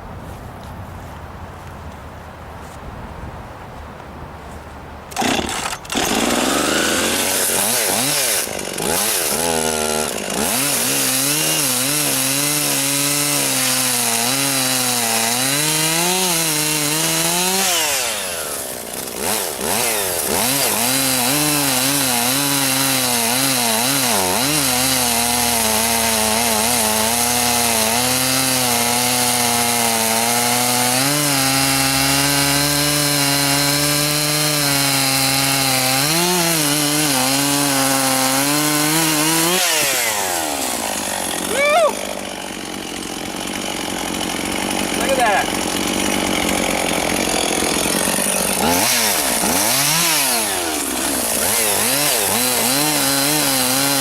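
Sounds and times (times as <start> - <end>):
chainsaw cutting log: 5.1 - 54.0.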